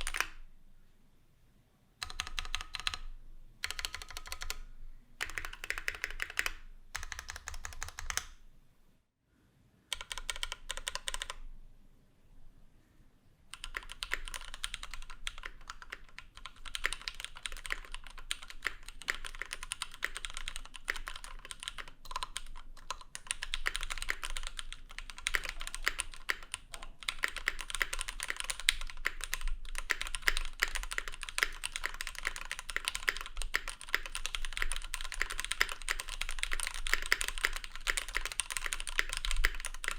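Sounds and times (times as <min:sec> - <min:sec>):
mechanical keyboard typing: 0:00.0 - 0:00.4, 0:02.0 - 0:04.6, 0:05.2 - 0:08.4, 0:09.9 - 0:11.4, 0:13.5 - 0:39.9.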